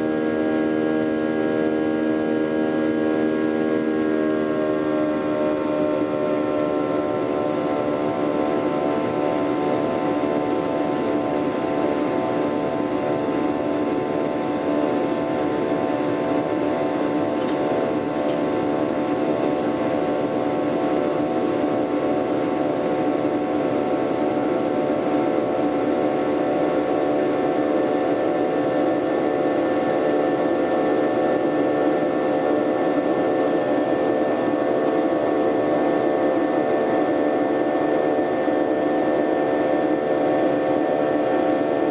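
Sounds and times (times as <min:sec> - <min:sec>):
jet engines droning in cabin: 0:00.0 - 0:41.9.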